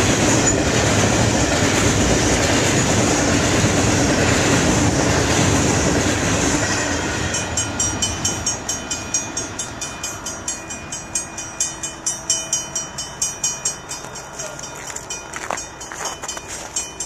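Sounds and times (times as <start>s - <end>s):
train wheels rolling: 0.0s - 17.0s.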